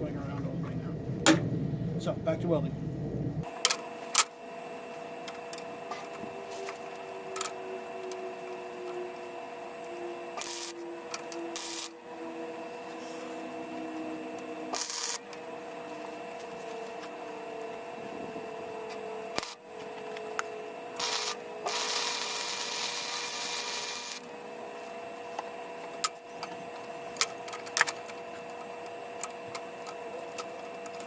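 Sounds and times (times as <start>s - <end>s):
machine whine: 0.0s - 31.0s.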